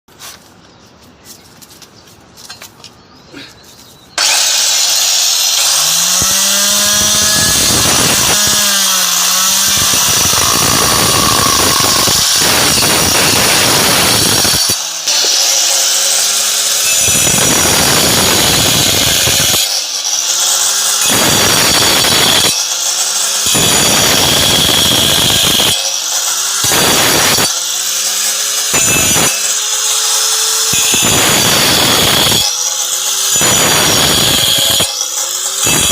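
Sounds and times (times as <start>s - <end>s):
marble cutter grinding floor: 4.2s - 35.9s.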